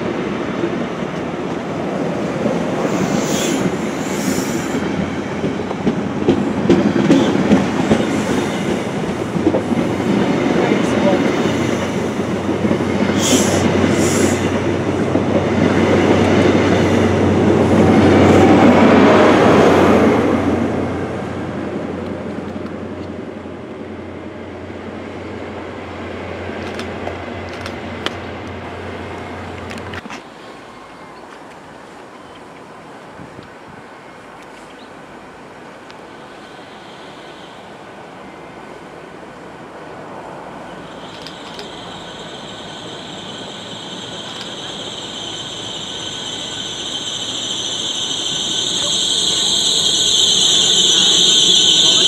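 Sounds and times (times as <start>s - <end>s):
train passing at speed: 0.0s - 52.0s.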